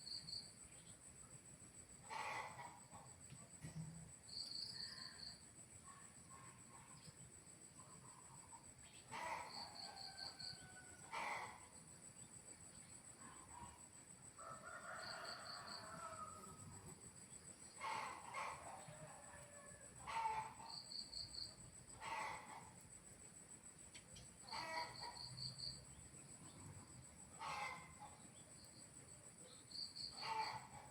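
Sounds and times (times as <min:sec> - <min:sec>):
cricket-like chirps: 0:00.0 - 0:30.9.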